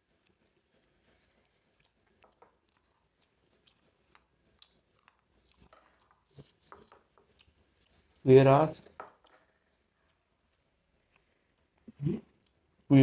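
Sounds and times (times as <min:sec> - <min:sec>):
chewing crunches: 0:00.0 - 0:12.7.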